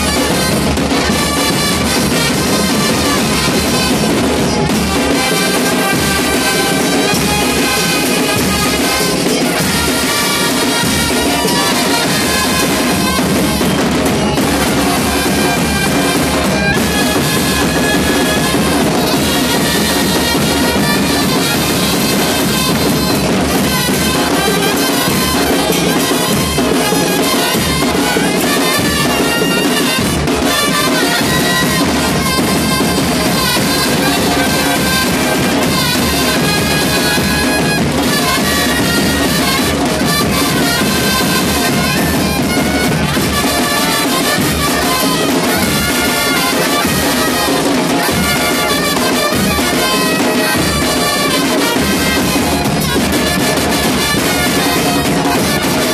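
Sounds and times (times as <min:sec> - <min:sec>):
band playing music: 0:00.0 - 0:55.9
bass drum and snare: 0:00.0 - 0:55.9.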